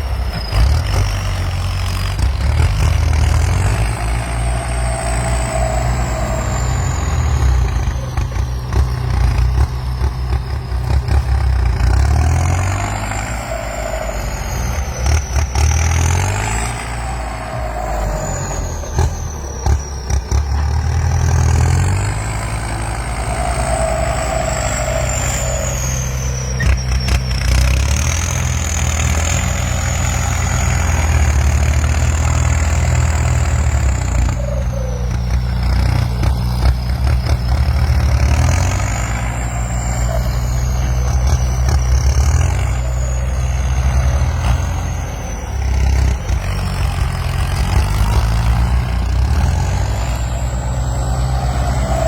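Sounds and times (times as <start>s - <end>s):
diesel tractor engine running: 0.0s - 52.0s.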